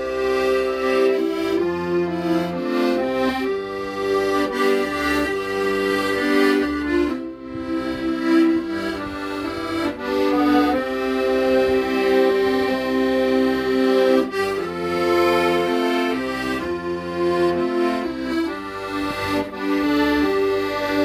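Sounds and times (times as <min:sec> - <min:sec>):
accordion playing slow melody: 0:00.0 - 0:21.0.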